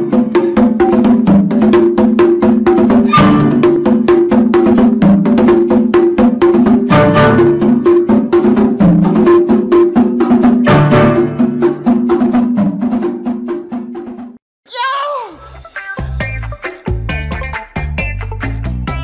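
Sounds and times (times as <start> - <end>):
background music with percussive beat: 0.0 - 14.4, 15.4 - 19.0.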